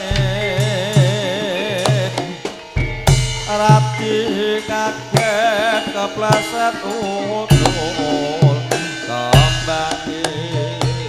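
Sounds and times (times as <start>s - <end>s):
drum strokes: 0.0s - 11.0s
gamelan ensemble playing: 0.0s - 11.0s
person singing with vibrato: 0.0s - 11.0s.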